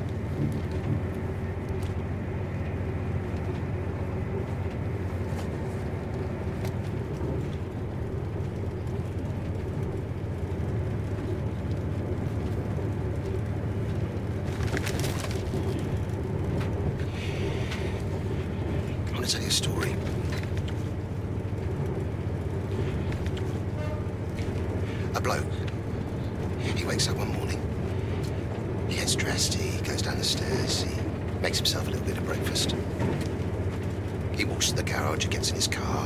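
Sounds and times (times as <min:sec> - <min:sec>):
train rumbling inside carriage: 0:00.0 - 0:36.0.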